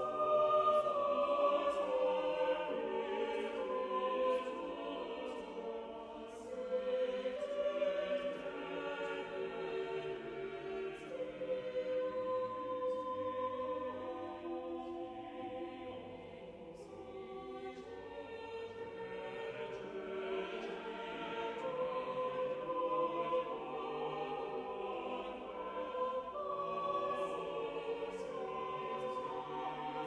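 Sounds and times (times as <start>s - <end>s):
choir holding long chords: 0.0s - 30.0s.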